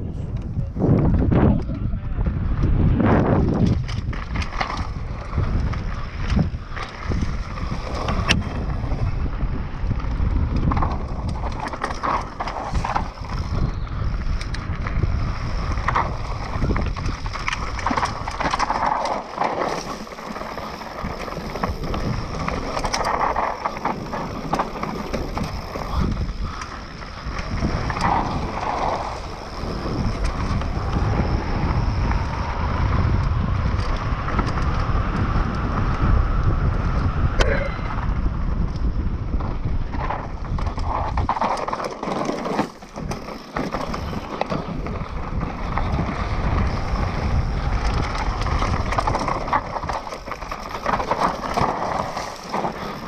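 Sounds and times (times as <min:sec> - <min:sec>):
wind noise on microphone: 0:00.0 - 0:53.0
bike rattling and knocking: 0:01.0 - 0:53.0
tyres on dirt and stone: 0:03.3 - 0:32.4, 0:39.3 - 0:53.0.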